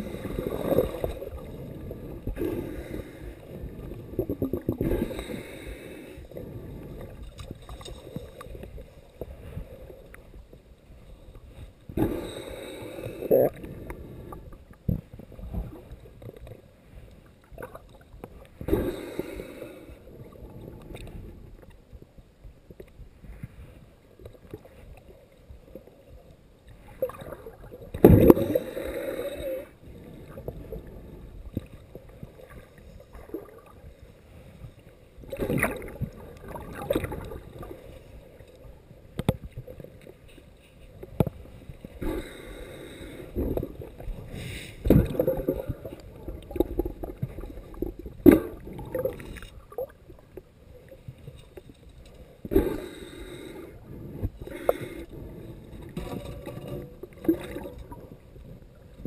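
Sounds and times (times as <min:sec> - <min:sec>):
underwater water wash: 0:00.0 - 0:59.0.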